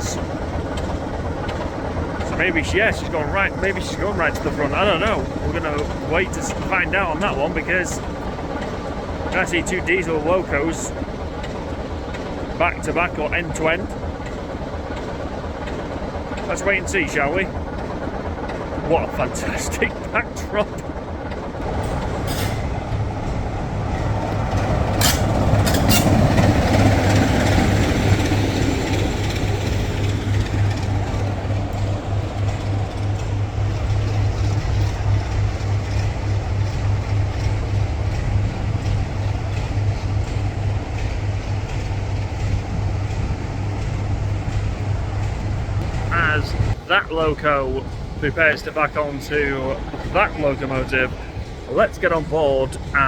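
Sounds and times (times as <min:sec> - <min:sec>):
diesel locomotive engine throbbing: 0:00.0 - 0:53.0.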